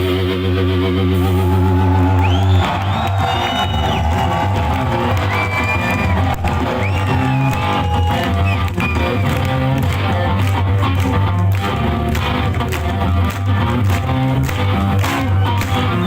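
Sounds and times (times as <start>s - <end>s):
drums: 0.0s - 16.0s
electric guitar riff: 0.0s - 16.0s.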